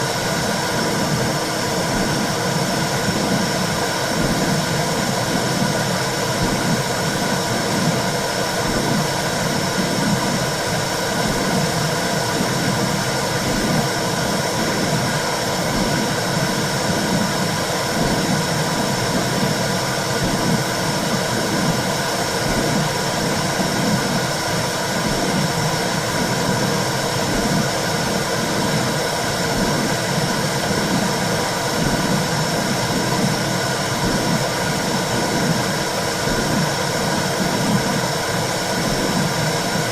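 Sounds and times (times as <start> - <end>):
low heartbeat pulsing: 0.8 - 10.4, 11.2 - 24.3, 25.0 - 39.9.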